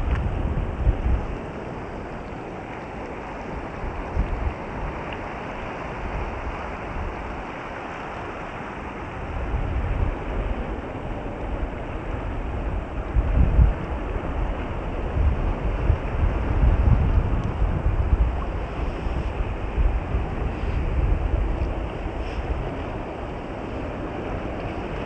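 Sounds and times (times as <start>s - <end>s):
sea surf rushing: 0.0s - 25.0s
wind buffeting microphone: 0.0s - 25.0s.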